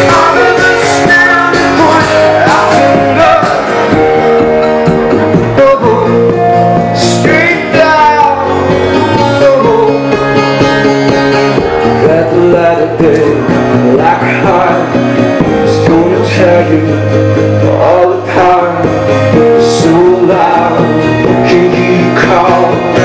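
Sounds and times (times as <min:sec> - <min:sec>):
acoustic guitars strummed: 0:00.0 - 0:23.0.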